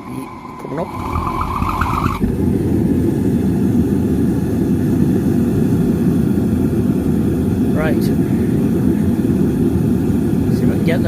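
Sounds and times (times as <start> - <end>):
gas forge burner roaring: 0.0 - 11.0.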